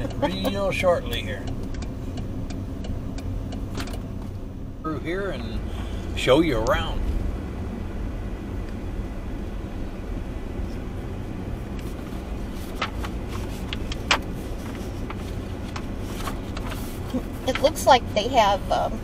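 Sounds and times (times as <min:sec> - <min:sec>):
tyres on road: 0:00.0 - 0:19.0
vehicle engine rumble: 0:00.0 - 0:19.0.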